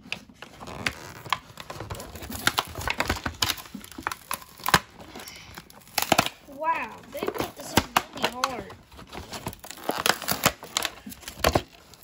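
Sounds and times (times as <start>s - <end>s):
plastic blister tray crinkling: 0.0s - 12.0s.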